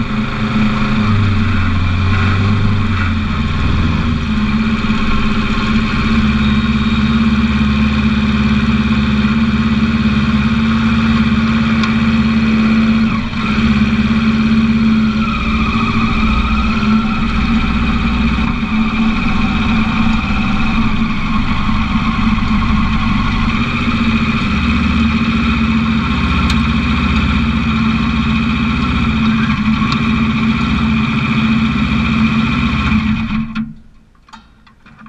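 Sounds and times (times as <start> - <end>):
race car engine idling: 0.0 - 34.1.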